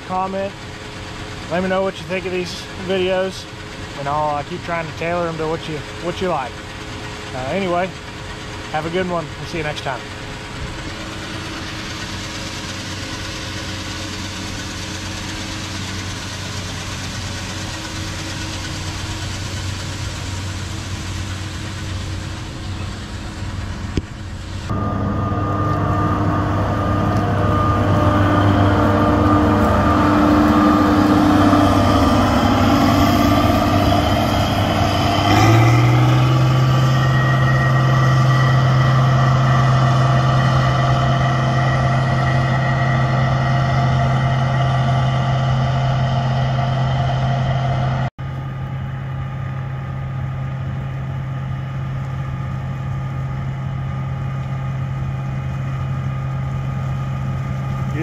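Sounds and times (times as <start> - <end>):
heavy vehicle engine: 0.0 - 58.0.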